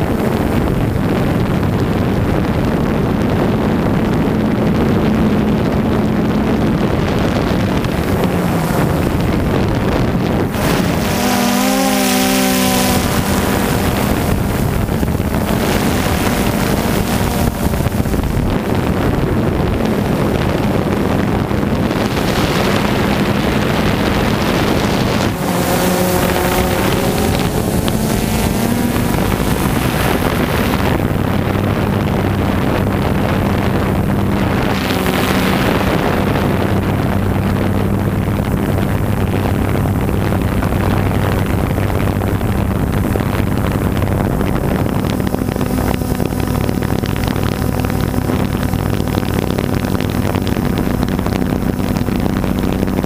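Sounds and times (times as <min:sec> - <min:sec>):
drone propellers buzzing: 0:00.0 - 0:53.0
wind on microphone: 0:00.0 - 0:53.0.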